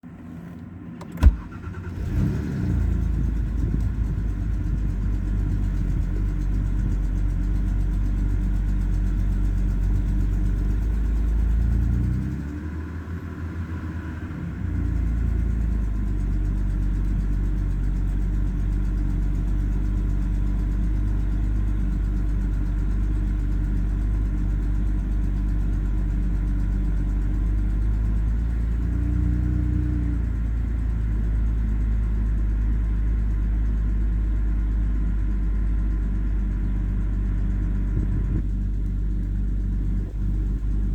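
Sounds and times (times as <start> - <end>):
engine ticking: 1.0 - 12.4, 14.3 - 40.9
car engine idling roughly: 1.2 - 12.3, 13.1 - 40.9.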